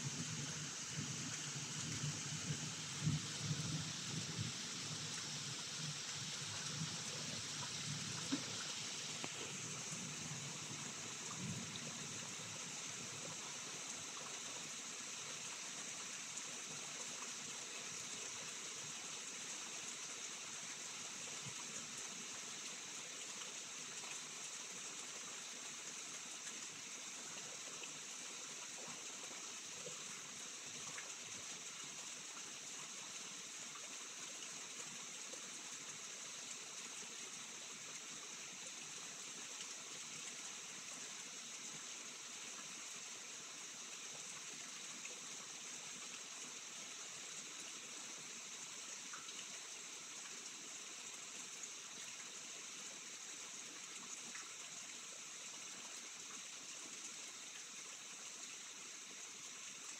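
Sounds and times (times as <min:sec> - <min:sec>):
steady rain falling: 0:00.0 - 0:52.2.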